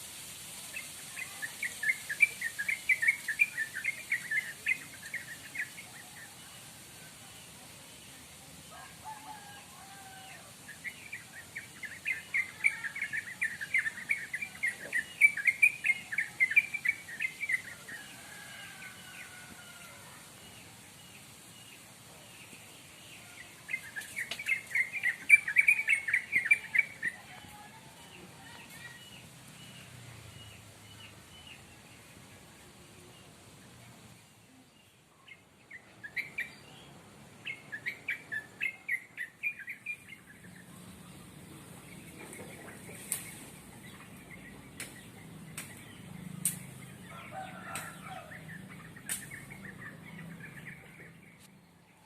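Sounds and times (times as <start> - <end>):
birds chirping: 0.7 - 52.0.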